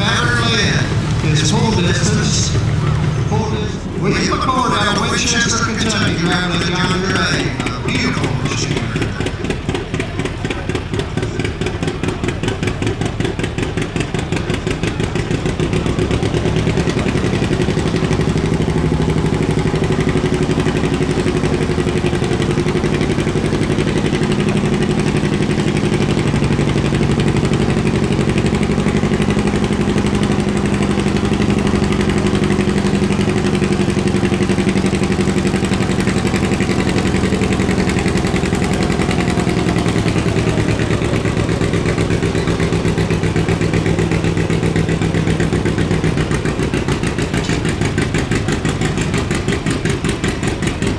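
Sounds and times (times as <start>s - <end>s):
tractor engine running hard: 0.0s - 50.9s.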